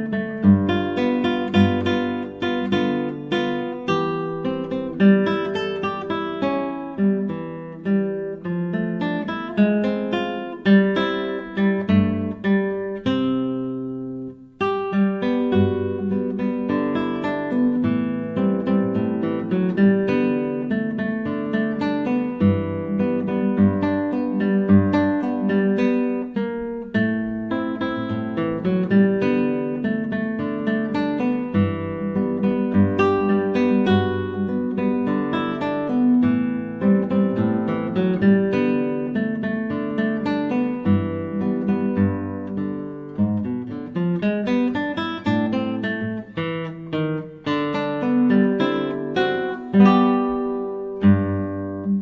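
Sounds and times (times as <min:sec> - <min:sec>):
classical guitar fingerstyle melody: 0:00.0 - 0:52.0.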